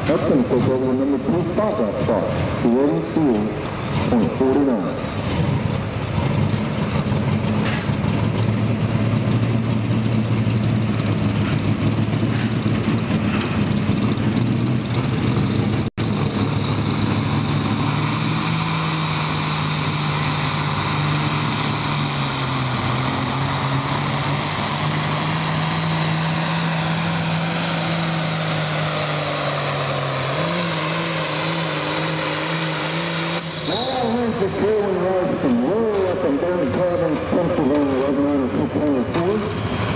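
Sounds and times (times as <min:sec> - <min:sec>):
tractor engine droning under load: 0:00.0 - 0:39.9.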